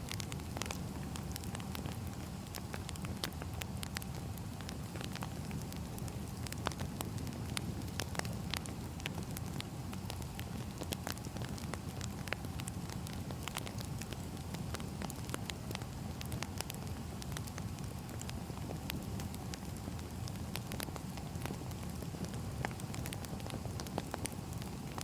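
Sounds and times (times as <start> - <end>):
firewood crackling and popping: 0.0 - 25.0
low fire rumble: 0.0 - 25.0.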